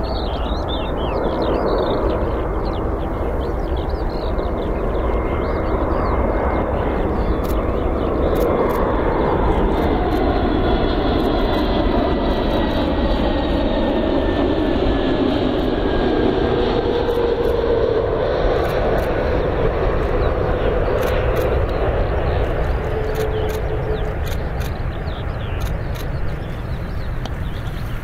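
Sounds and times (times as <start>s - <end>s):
jet engine rumble: 0.0s - 28.0s.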